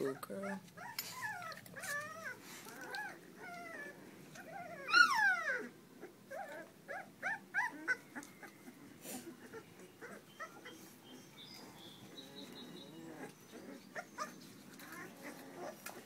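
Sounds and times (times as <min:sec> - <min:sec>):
puppies whimpering: 0:00.0 - 0:16.0.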